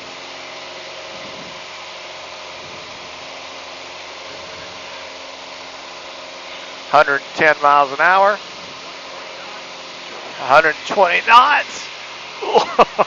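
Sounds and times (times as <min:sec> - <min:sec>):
aircraft engine and propeller: 0:00.0 - 0:13.0.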